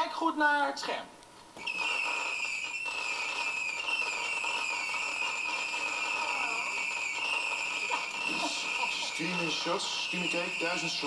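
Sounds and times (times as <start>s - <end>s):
firework whistling shots: 1.6s - 11.0s.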